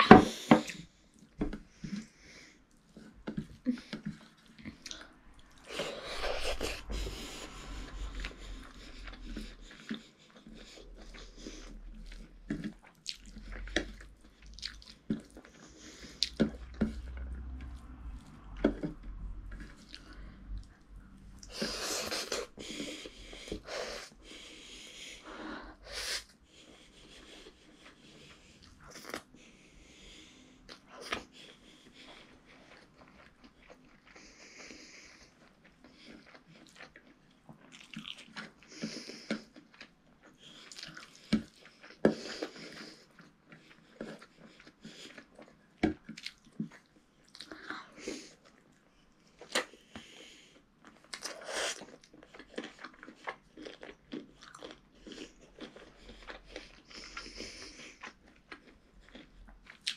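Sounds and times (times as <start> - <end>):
person chewing: 0.0 - 59.9.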